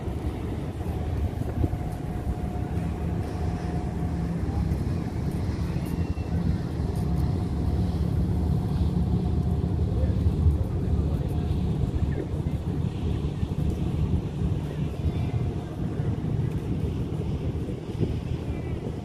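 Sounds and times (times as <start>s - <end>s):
boat engines rumbling: 0.0s - 19.0s
water: 0.0s - 19.0s.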